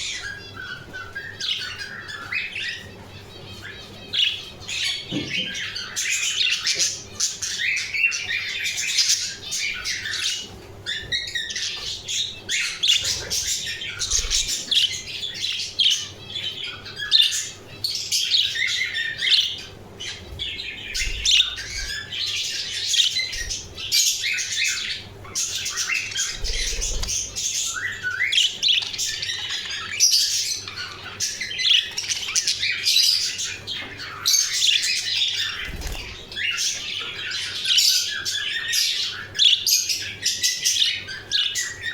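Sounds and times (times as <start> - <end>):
budgerigars chattering and squawking: 0.0 - 41.9.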